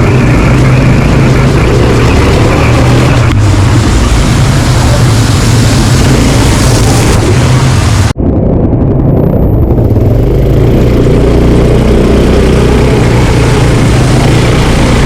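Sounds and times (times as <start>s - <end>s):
loud rushing noise: 0.0s - 15.0s
quad bike engine running: 0.0s - 15.0s.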